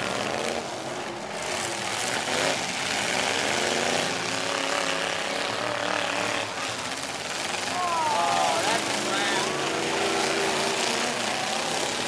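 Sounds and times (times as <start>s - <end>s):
broad wash of noise: 0.0s - 12.0s
truck engines running loud: 0.0s - 12.0s.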